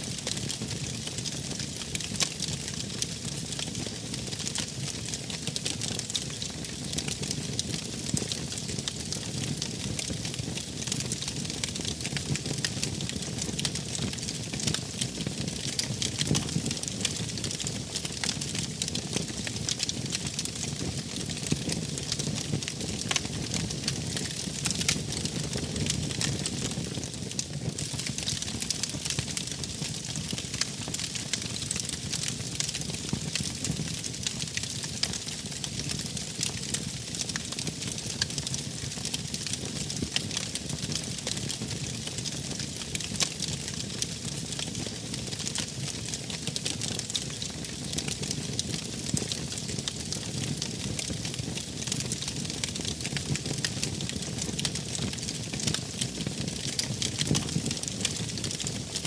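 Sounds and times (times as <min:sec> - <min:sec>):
low fire rumble: 0:00.1 - 0:59.0
wood fire crackling: 0:00.1 - 0:59.0.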